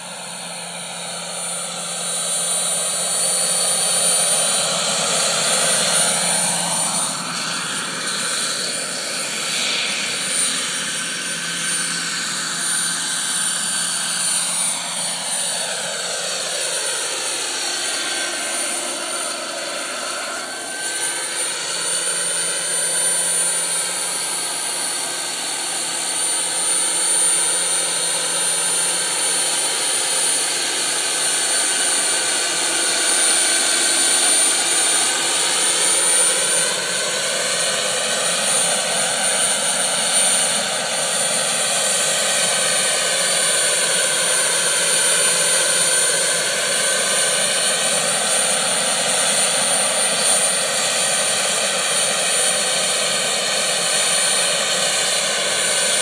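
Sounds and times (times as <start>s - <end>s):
model helicopter turbine whine: 0.0s - 56.0s.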